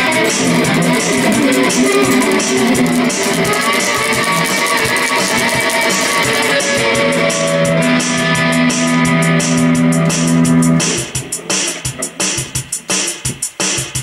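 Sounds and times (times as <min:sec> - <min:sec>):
electric guitar strumming chords: 0:00.0 - 0:13.0.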